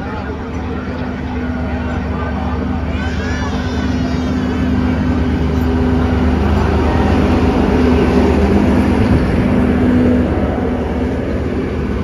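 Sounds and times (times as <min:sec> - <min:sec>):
passenger train rumbling past: 0:00.0 - 0:12.0.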